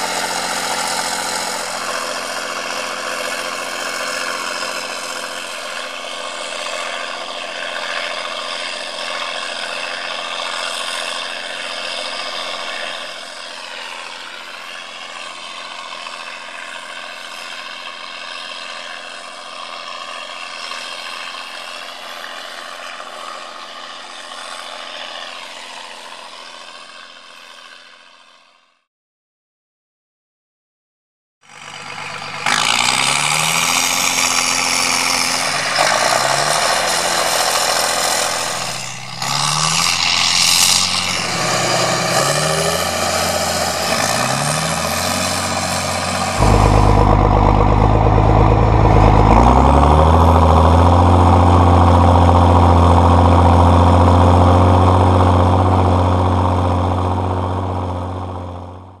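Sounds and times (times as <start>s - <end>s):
tractor diesel engine under load: 0.0s - 28.6s, 31.4s - 59.0s.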